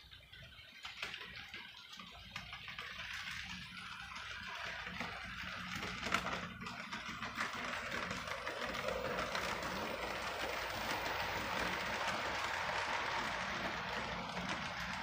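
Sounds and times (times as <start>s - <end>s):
model train clattering: 0.1s - 15.0s.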